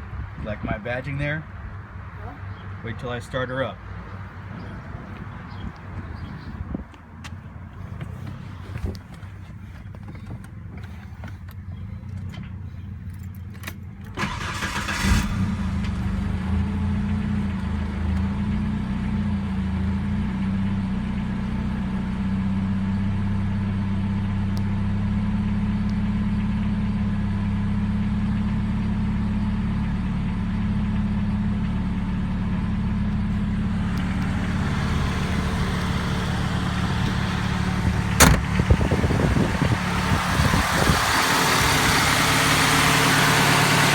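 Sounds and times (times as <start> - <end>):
car engine starting and idling: 2.8 - 43.9.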